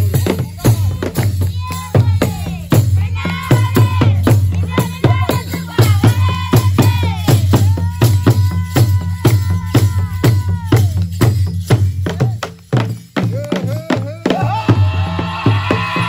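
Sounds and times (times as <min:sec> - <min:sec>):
drums beating quick rhythm: 0:00.0 - 0:16.0.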